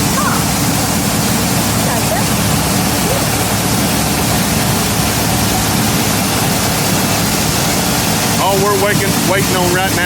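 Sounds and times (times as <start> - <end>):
grain machinery rushing and humming: 0.0 - 10.0.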